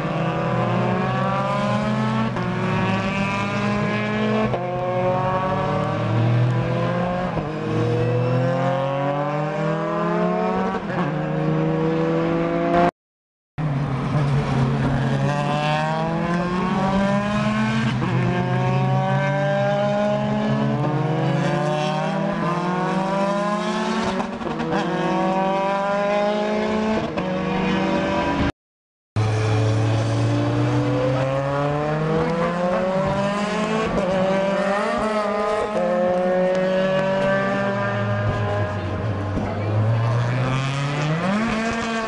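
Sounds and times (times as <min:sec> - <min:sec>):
racing car engines accelerating: 0:00.0 - 0:12.9, 0:13.7 - 0:28.5, 0:29.2 - 0:42.0.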